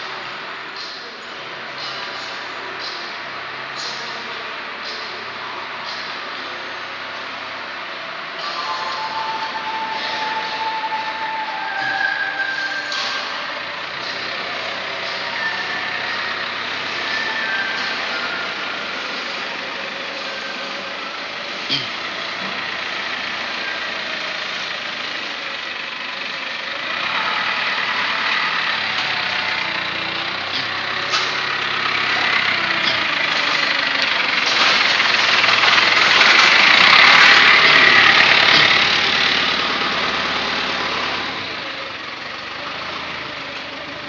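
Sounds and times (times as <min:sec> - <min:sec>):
factory machinery running: 0:00.0 - 0:44.0.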